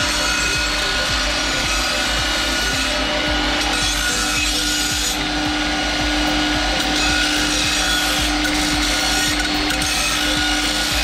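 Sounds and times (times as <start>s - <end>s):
belt grinder grinding steel: 0.0s - 11.0s.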